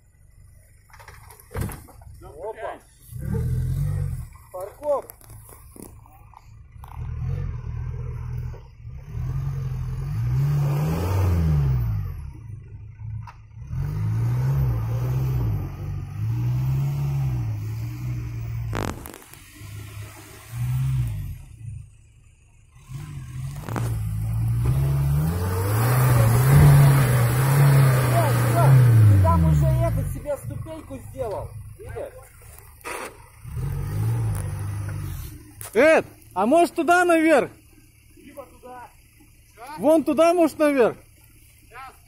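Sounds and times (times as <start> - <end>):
off-road vehicle engine revving: 0.8 - 42.0.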